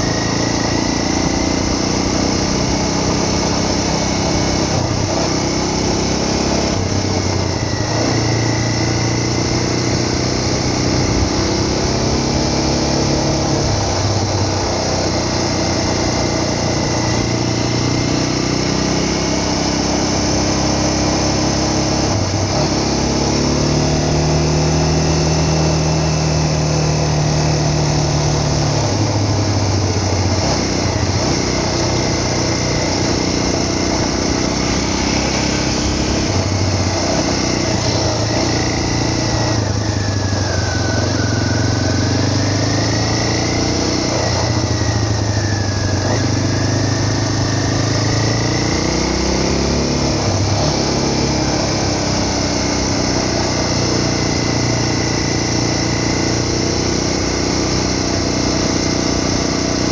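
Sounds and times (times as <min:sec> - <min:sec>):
small vehicle engine running: 0:00.0 - 0:59.9.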